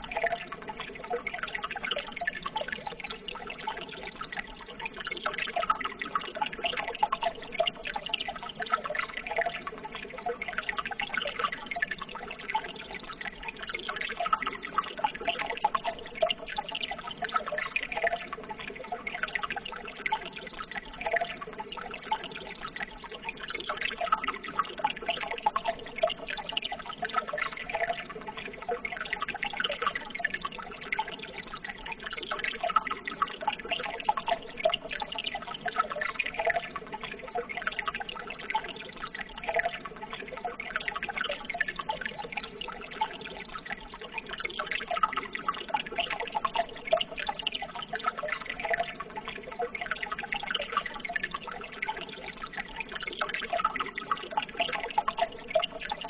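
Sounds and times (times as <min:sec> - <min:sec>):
water babbling: 0:00.0 - 0:56.0.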